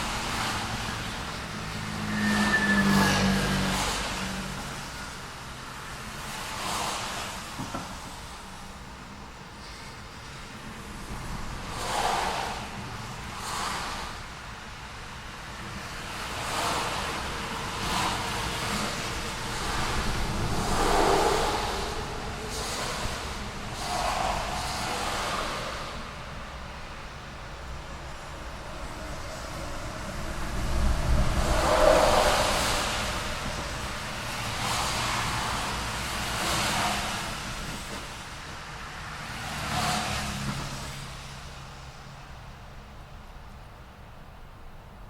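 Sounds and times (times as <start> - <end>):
background traffic noise: 0.0 - 45.0
cars passing: 0.0 - 45.0.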